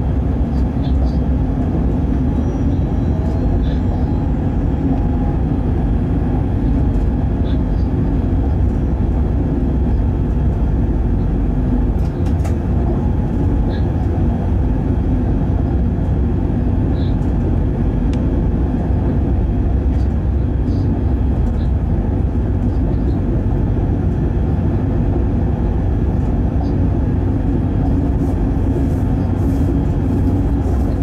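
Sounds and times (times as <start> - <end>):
locomotive running noise: 0.0 - 31.0.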